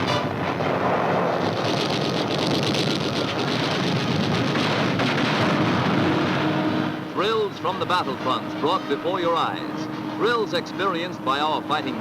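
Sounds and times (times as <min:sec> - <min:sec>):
dense rushing noise: 0:00.0 - 0:12.0.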